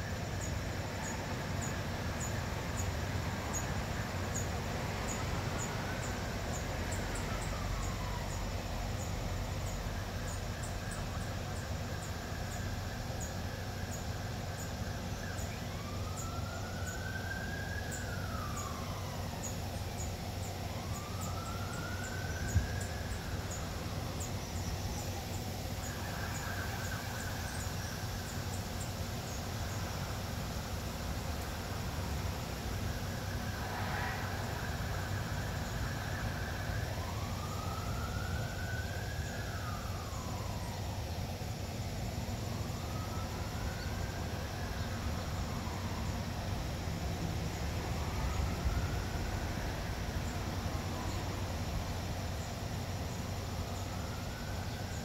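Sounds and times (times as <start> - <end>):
background hiss: 0.0 - 55.0
emergency siren wailing: 0.1 - 55.0.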